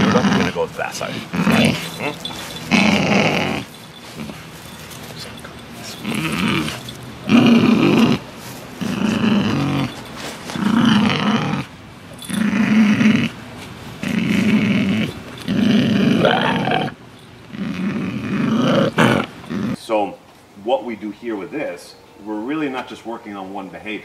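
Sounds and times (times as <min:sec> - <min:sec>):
dog growling: 0:00.0 - 0:13.4, 0:14.0 - 0:19.8.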